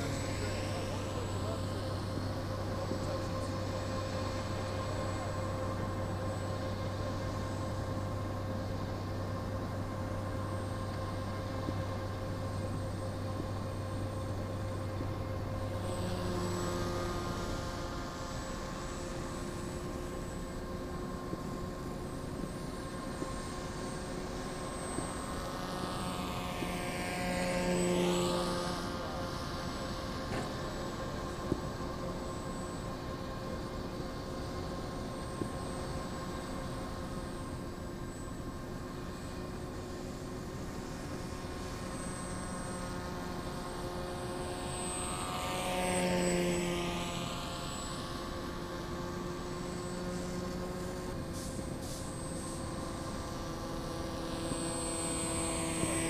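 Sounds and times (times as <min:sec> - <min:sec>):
model plane motor buzzing: 0:00.0 - 0:56.0.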